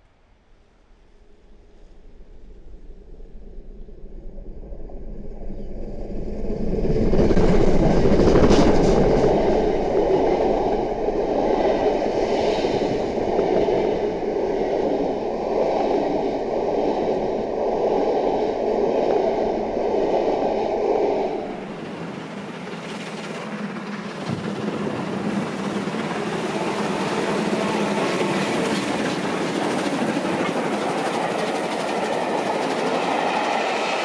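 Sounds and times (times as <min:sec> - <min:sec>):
steam train passing at speed: 0:06.4 - 0:34.0
rolling rumble of coaches: 0:06.8 - 0:34.0.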